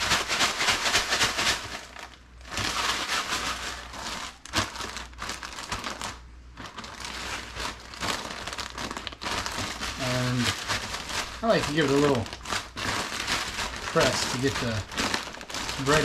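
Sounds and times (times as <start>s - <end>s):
dry crumbs rattling in bag: 0.0s - 16.0s
plastic bag crinkling: 0.0s - 16.0s.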